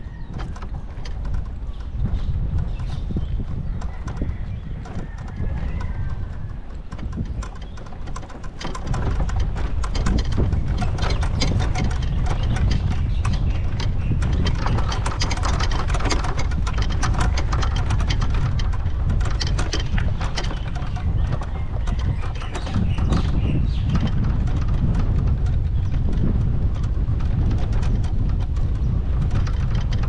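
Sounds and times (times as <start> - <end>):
camera clicks and rattles: 0.0 - 30.0
wind on microphone: 0.0 - 30.0.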